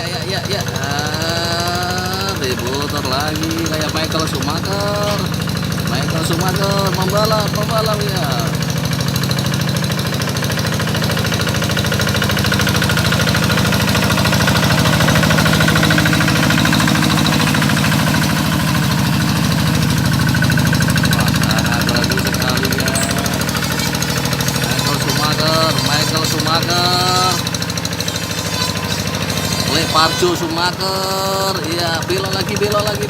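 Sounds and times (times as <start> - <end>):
tractor engine chugging: 0.0 - 33.0.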